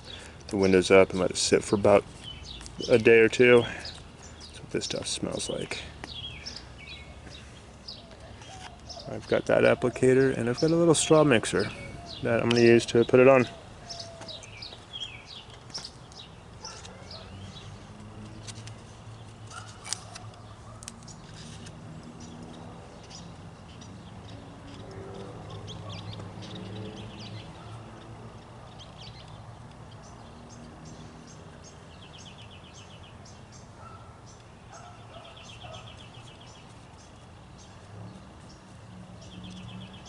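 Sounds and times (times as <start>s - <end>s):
birds chirping and trilling: 0.0s - 40.0s.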